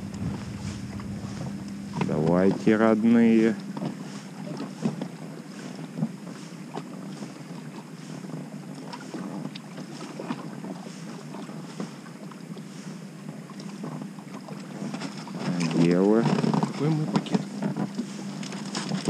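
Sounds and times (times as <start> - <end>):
waves lapping against boat hull: 0.0 - 19.0
wind: 0.0 - 19.0.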